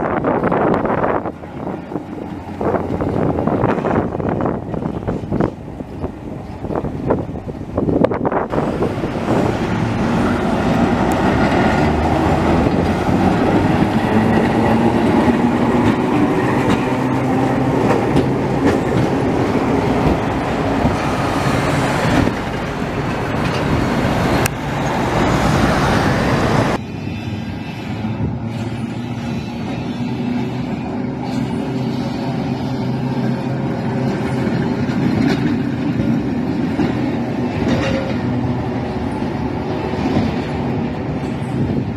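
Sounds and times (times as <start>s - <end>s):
tram wheels rumbling on rails: 0.0s - 41.9s.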